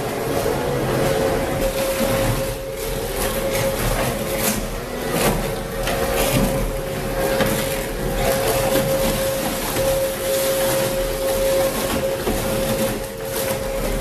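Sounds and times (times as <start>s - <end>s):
crushing machine humming: 0.0s - 14.0s.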